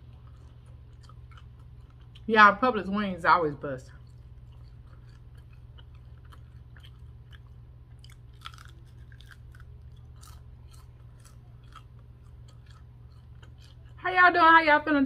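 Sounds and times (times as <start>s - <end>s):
chewing crispy food: 0.0s - 14.4s
steady low hum: 0.0s - 15.0s.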